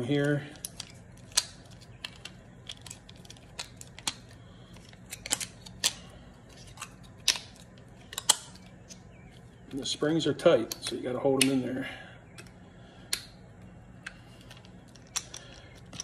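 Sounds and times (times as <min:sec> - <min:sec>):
plastic parts clicking and snapping: 0:00.2 - 0:09.1, 0:10.5 - 0:11.7, 0:12.3 - 0:13.4, 0:14.0 - 0:16.0.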